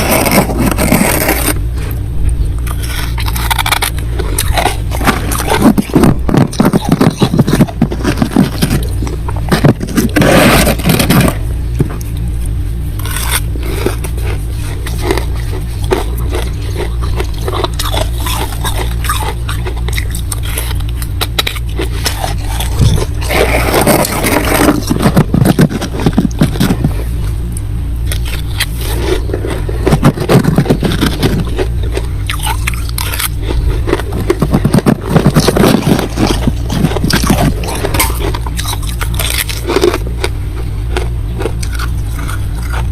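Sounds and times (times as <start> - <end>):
freezer frost being scraped: 0.0 - 2.0, 2.6 - 11.5, 13.0 - 27.3, 28.1 - 40.3
steady low hum: 0.0 - 42.9.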